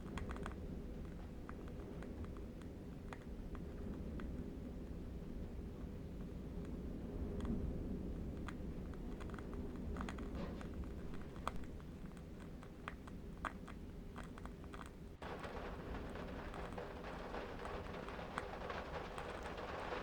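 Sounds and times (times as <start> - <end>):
dense crackling hiss: 0.0 - 20.0
low wind rumble: 0.0 - 20.0.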